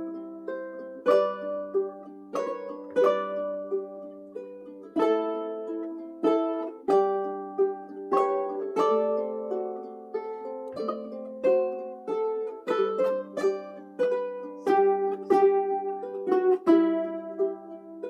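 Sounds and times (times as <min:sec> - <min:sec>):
ukulele playing slow tune: 0:00.0 - 0:18.0.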